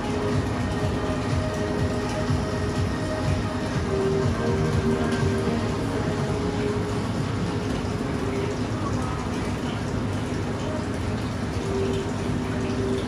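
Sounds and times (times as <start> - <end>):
pump running: 0.0 - 13.0
water rushing in a tub: 0.0 - 13.0.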